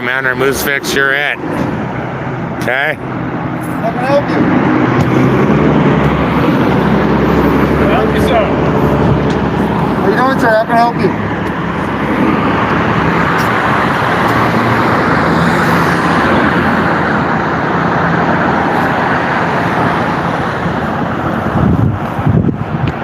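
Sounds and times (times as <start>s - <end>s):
street traffic noise: 0.0s - 23.0s.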